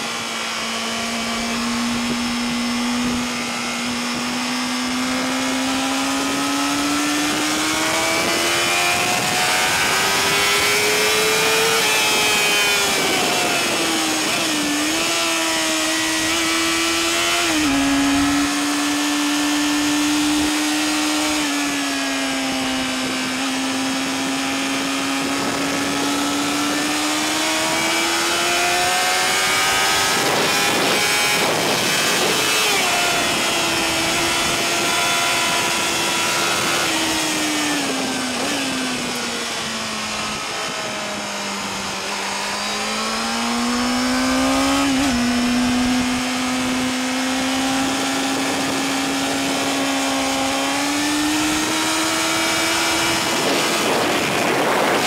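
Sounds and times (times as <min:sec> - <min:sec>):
motorcycle engine at high revs: 0:00.0 - 0:55.0
wind rush: 0:00.9 - 0:18.8, 0:19.9 - 0:55.0.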